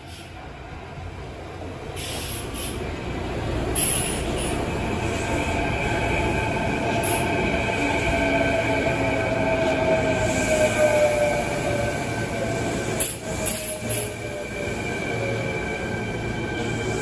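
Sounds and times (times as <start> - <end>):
train whine: 0.0 - 17.0
train brakes squealing: 1.9 - 2.8, 3.7 - 17.0.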